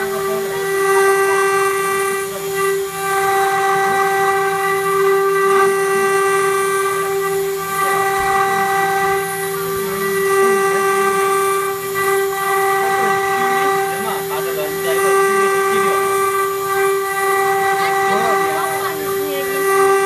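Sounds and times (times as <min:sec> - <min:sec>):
cutter hissing through metal: 0:00.0 - 0:20.0
router spindle high whine: 0:00.0 - 0:20.0.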